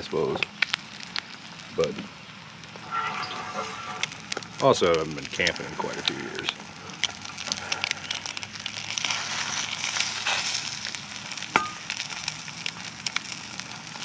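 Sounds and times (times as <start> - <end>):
eggs sizzling in skillet: 0.0 - 14.0.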